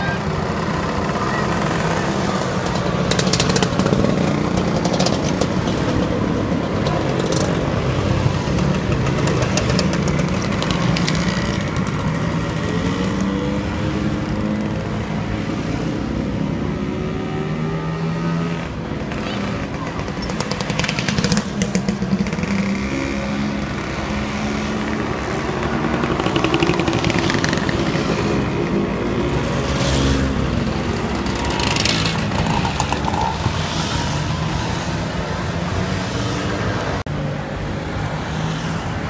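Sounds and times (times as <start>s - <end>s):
scooter engines buzzing past: 0.0s - 37.0s.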